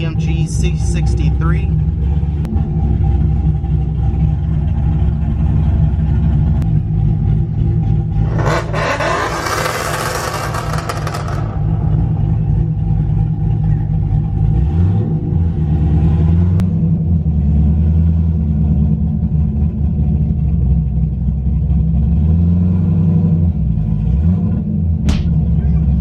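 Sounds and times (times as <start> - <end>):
car engine idling: 0.0 - 22.7, 23.5 - 26.0.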